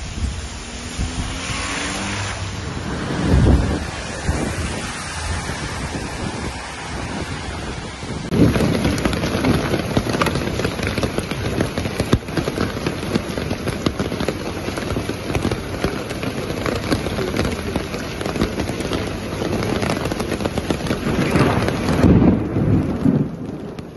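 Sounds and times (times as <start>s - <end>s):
hail and rain pelting street: 0.0s - 23.9s.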